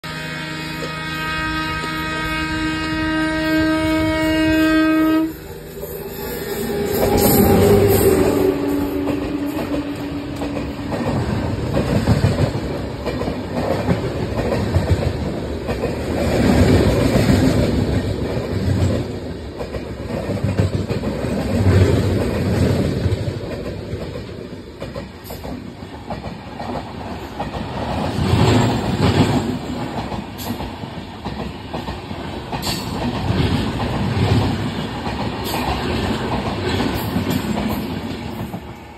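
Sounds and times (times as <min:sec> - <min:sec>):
train wheels clattering over rail joints: 0:06.7 - 0:38.7.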